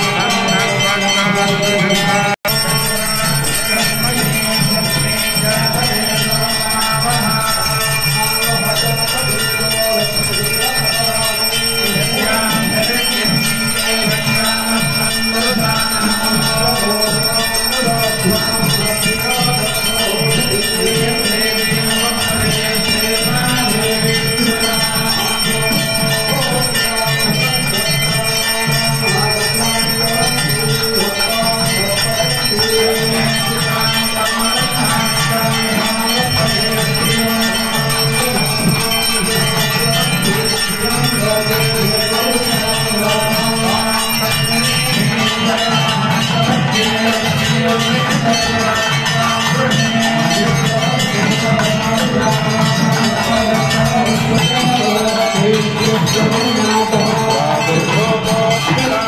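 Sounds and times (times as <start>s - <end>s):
music: 0.0s - 59.0s
temple bells ringing: 0.0s - 59.0s.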